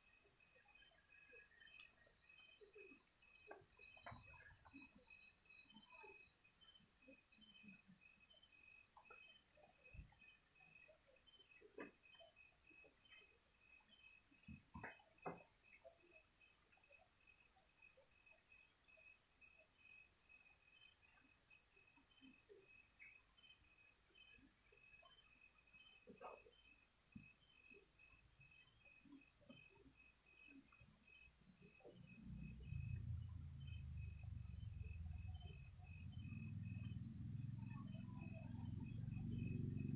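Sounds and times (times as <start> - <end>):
faint insect chirp: 0.0 - 39.9
insects trilling: 0.0 - 39.9.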